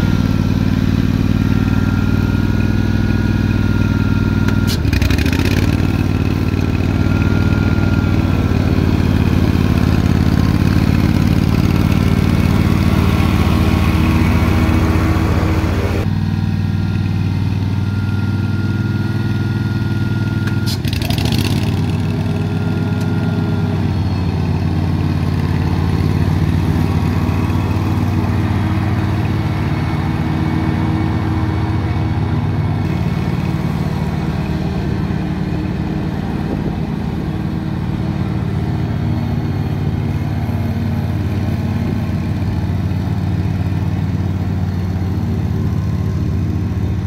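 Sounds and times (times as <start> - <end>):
lawn mower engine running: 0.0 - 47.0.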